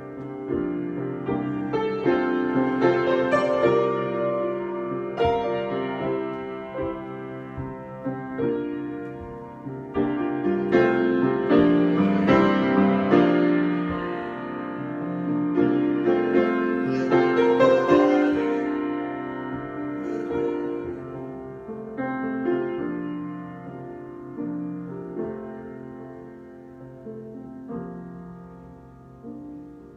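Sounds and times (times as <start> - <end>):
solo piano improvisation: 0.0 - 29.9.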